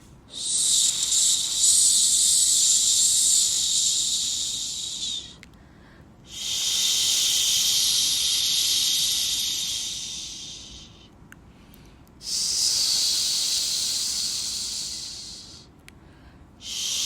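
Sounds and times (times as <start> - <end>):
white noise hiss: 0.0 - 17.0.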